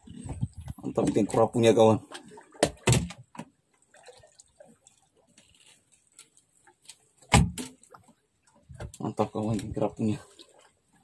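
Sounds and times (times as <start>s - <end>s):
small water drips: 2.0s - 11.0s.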